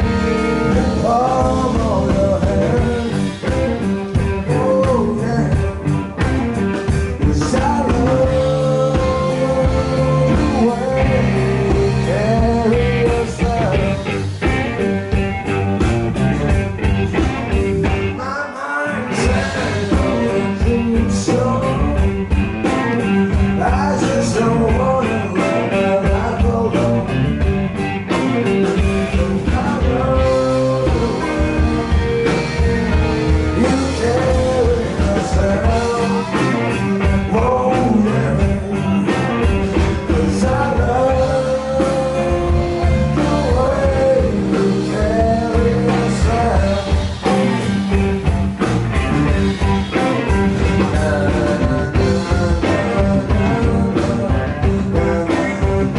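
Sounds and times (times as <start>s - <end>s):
person singing lead vocal: 0.0s - 15.2s, 17.5s - 48.3s, 49.4s - 55.9s
bass guitar: 0.0s - 55.9s
drum kit: 0.0s - 55.9s
electric guitars: 0.0s - 55.9s.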